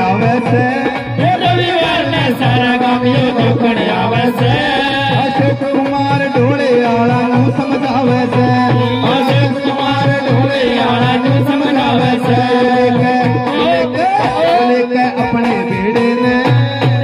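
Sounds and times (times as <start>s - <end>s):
hand drum beat: 0.0s - 17.0s.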